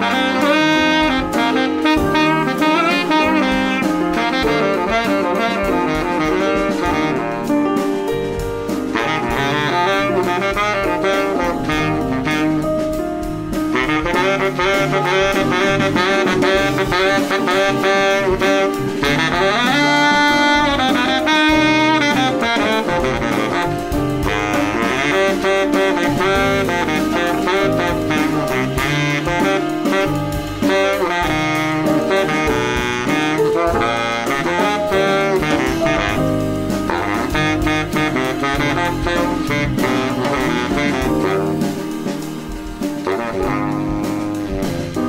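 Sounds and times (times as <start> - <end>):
drum kit: 0.0 - 45.0
saxophone melody: 0.0 - 45.0.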